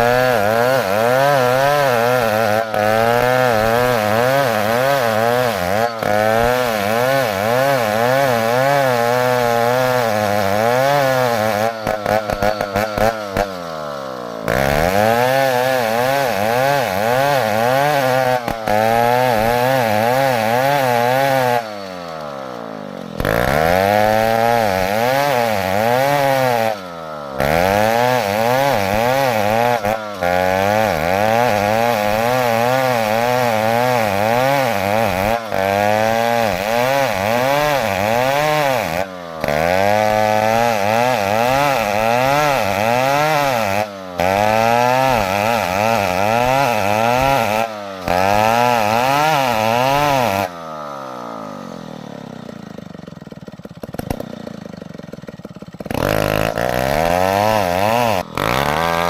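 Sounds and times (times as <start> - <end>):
chainsaw sawing wood: 0.0 - 59.0.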